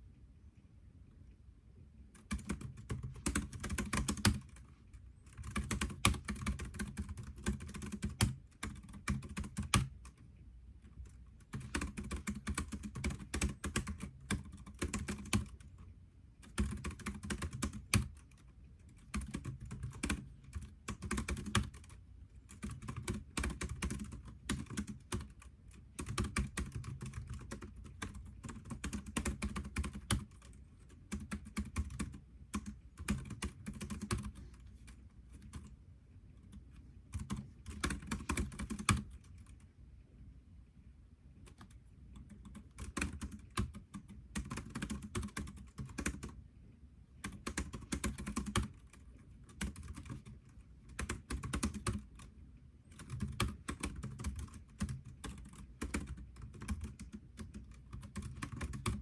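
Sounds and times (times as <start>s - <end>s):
computer keyboard typing: 2.2s - 10.2s, 10.8s - 35.8s, 36.4s - 39.6s, 41.4s - 46.4s, 47.2s - 59.0s.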